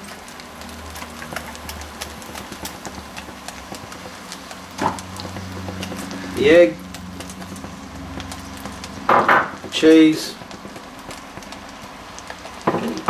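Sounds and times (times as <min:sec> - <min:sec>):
food crackling in a pot: 0:00.0 - 0:13.0.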